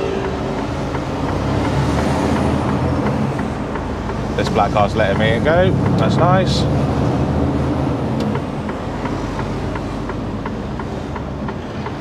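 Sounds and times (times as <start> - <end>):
lorry engine and road rumble: 0.0 - 12.0
turn signal ticking: 0.0 - 12.0.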